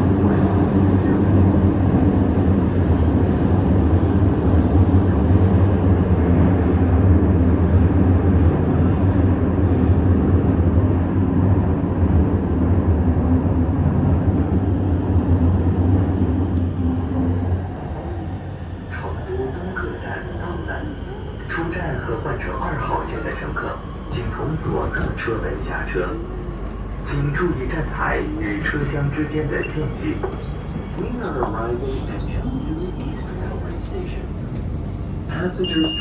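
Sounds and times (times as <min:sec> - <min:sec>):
train rumbling inside car: 0:00.0 - 0:36.0.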